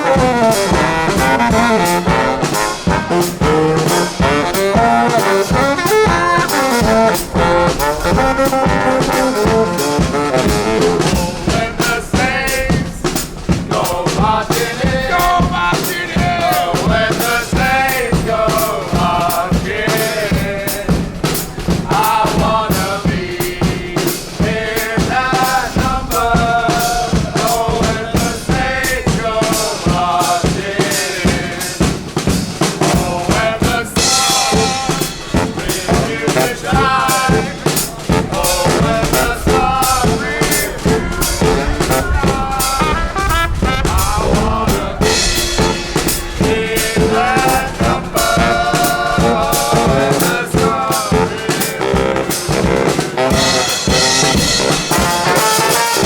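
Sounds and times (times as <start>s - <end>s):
brass band horns: 0.0s - 56.0s
drum kit with snare: 0.0s - 56.0s.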